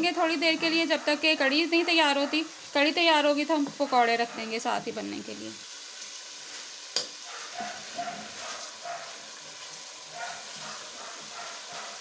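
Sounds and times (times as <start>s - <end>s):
curry paste sizzling in a pot: 0.0s - 12.0s.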